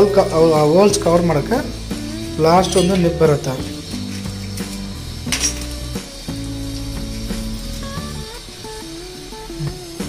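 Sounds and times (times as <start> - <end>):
held bass notes: 0.0 - 8.5.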